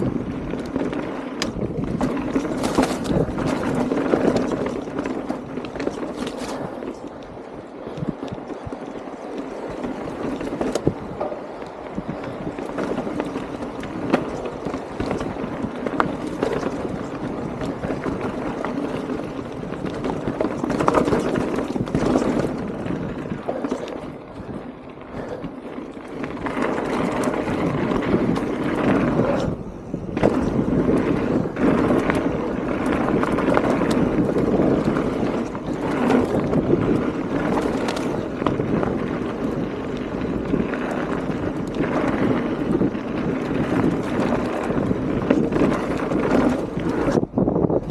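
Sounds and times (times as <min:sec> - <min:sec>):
bike knocking and rattling: 0:00.0 - 0:47.9
bike tyres rolling over dirt: 0:00.0 - 0:47.9.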